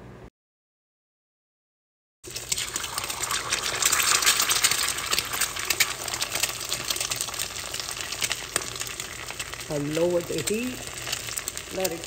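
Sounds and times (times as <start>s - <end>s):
eggs sizzling in oil: 2.2s - 12.0s.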